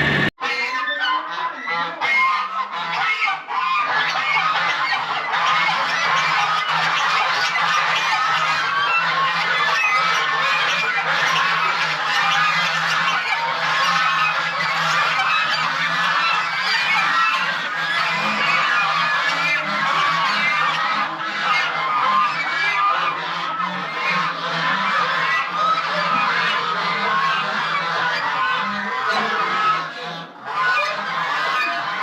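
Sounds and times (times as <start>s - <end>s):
poultry flock calling: 0.0s - 32.0s.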